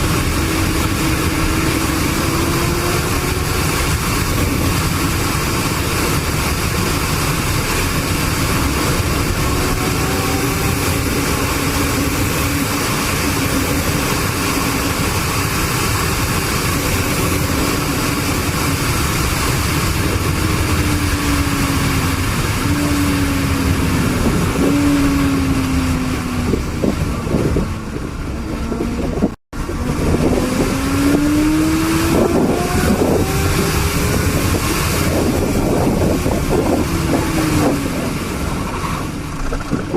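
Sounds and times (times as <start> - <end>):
road and wind noise: 0.0 - 39.9
vehicle engine: 0.0 - 39.9.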